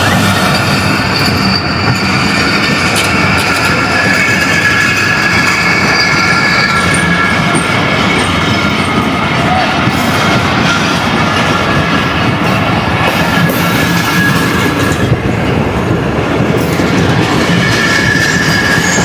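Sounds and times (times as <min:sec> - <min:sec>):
train rolling on rails: 0:00.0 - 0:19.0
train wheels squealing: 0:00.0 - 0:19.0.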